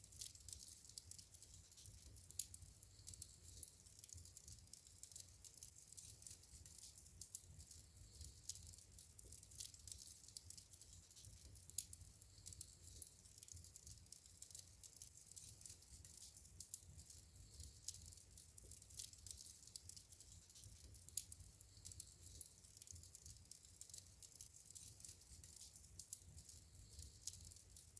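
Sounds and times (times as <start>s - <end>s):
low rumble of burning: 0.0s - 27.9s
wood fire crackling and popping: 0.0s - 27.9s.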